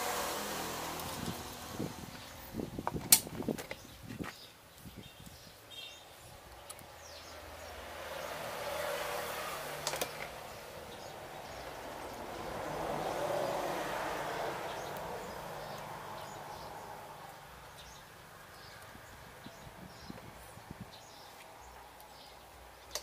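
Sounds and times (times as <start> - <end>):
faint outdoor background noise: 0.0 - 23.0.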